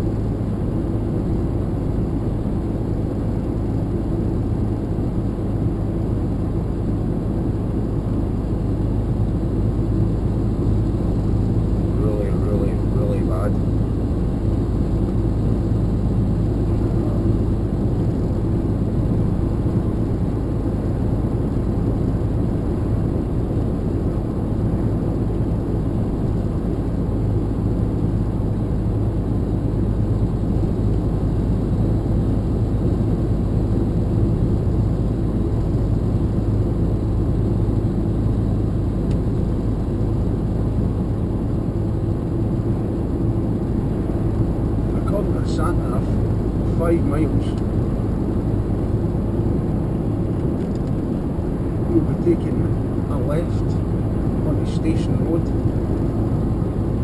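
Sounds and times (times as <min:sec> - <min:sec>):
lorry diesel engine drone: 0:00.0 - 0:57.0.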